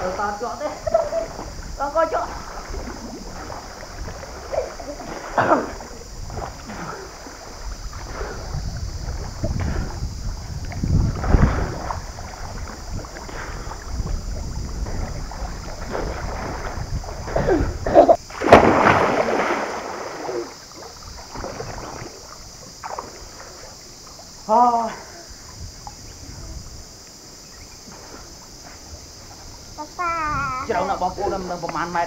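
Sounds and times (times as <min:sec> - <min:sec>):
wind rumbling on microphone: 0:00.0 - 0:23.8, 0:25.1 - 0:31.6
water splashing: 0:00.0 - 0:30.0.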